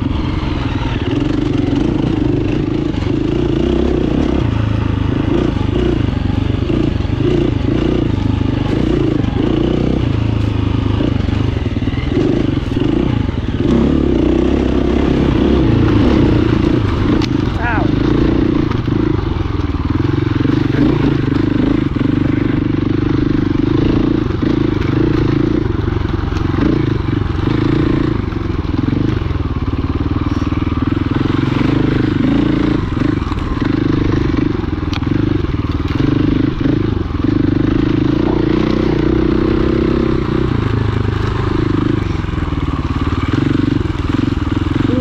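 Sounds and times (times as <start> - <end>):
dirt bike engine running: 0.0 - 45.0.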